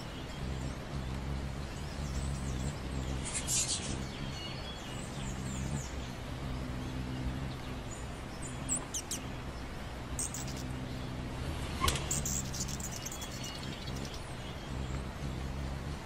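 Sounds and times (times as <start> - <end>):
hummingbirds chirping: 0.0 - 16.0
steady low hum: 0.0 - 16.0.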